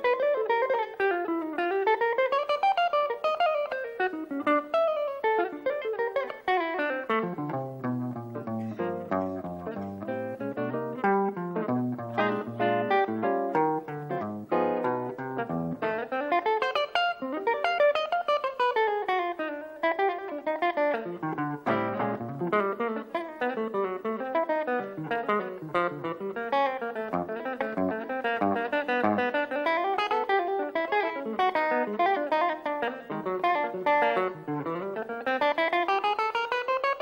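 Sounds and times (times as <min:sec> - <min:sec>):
solo jazz electric guitar: 0:00.0 - 0:37.0.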